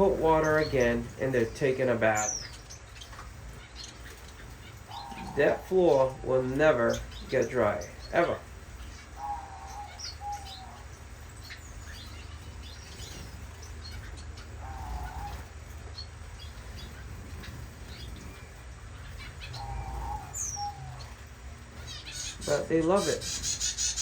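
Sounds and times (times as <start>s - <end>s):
finches calling: 0.0s - 24.0s
high bird chirps: 0.0s - 24.0s.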